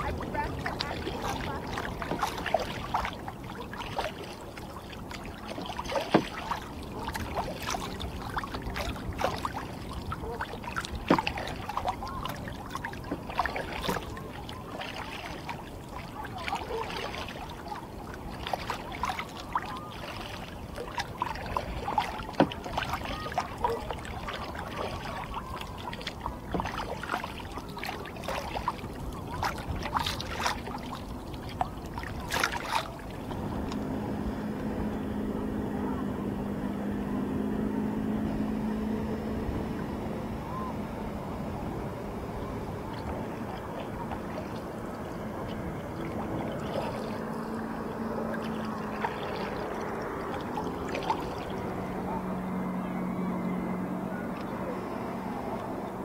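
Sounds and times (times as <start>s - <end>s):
paddle splashes and drips: 0.0s - 56.0s
water lapping around a kayak: 0.0s - 56.0s.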